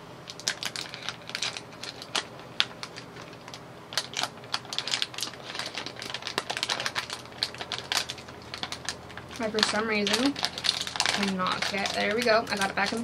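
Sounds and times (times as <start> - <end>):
snack packaging crinkling: 0.3 - 13.0.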